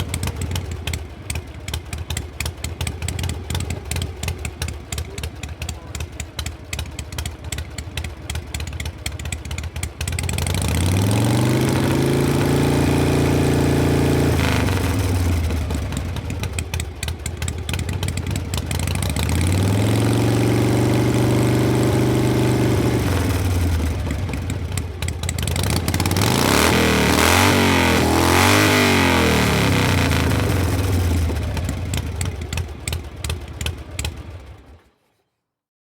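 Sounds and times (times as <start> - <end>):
motorcycle engine idling and revving: 0.0 - 35.2.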